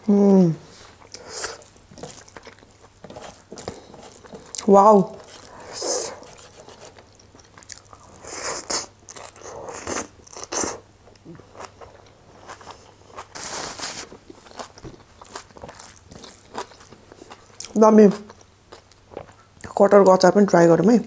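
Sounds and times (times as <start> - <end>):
close chewing crunches: 1.0 - 19.8.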